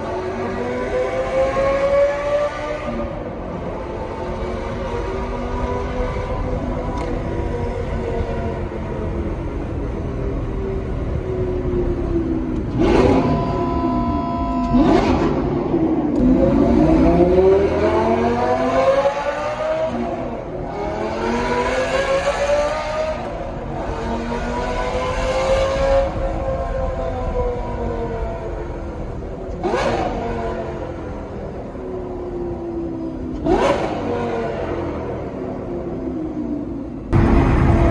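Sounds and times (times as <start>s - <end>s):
sports car accelerating through gears: 0.0s - 13.4s, 14.7s - 37.9s.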